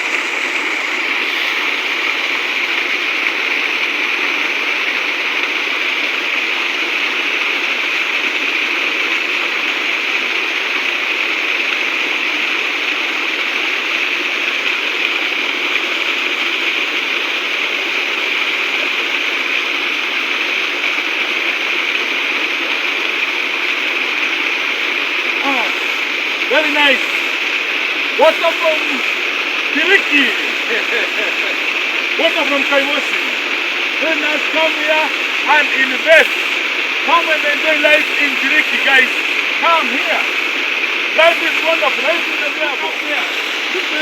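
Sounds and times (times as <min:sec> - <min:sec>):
small waterfall splashing: 0:00.0 - 0:44.0.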